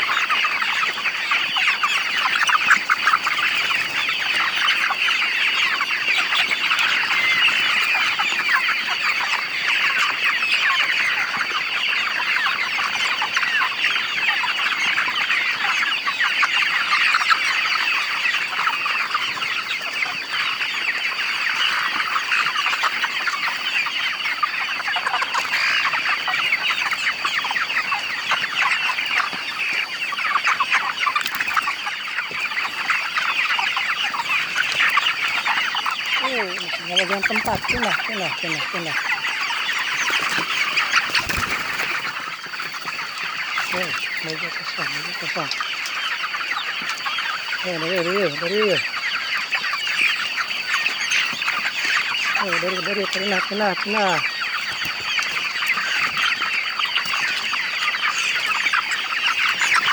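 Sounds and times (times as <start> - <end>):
chickens clucking and chirping: 0.0 - 59.9.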